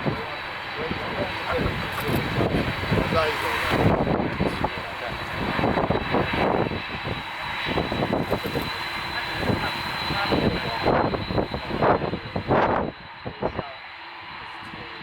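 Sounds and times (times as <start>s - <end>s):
high-pitched whine: 0.0s - 15.0s
jet engines running: 0.0s - 15.0s.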